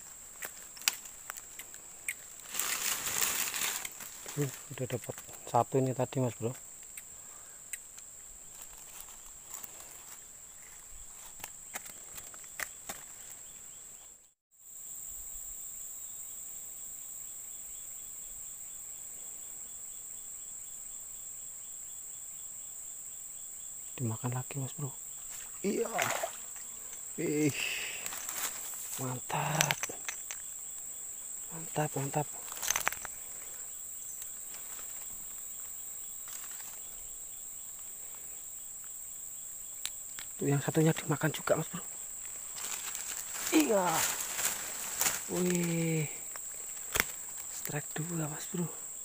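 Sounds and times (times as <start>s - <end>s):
insects buzzing: 0.0s - 49.0s.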